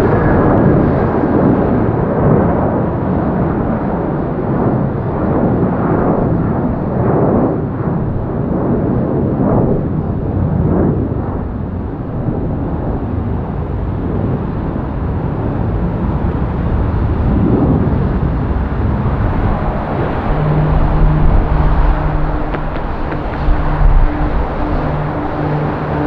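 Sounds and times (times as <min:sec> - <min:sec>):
jet engines climbing: 0:00.0 - 0:26.0
steady low hum: 0:00.0 - 0:26.0.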